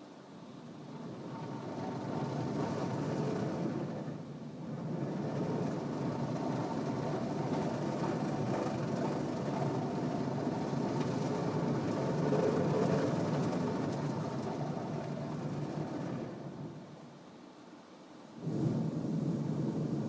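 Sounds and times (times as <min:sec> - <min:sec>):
car wash machinery running: 0:00.7 - 0:17.2.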